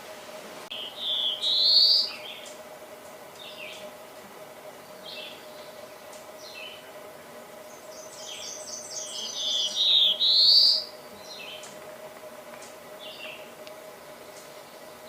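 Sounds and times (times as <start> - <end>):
faint steady hum: 0.0 - 15.0
warbler singing buzzy notes: 0.7 - 4.0, 4.6 - 15.0.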